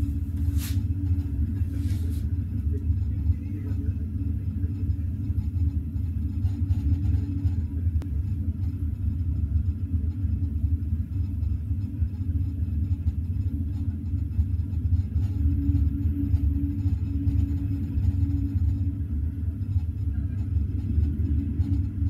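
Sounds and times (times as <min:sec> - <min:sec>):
train rumbling at speed: 0:00.0 - 0:22.0.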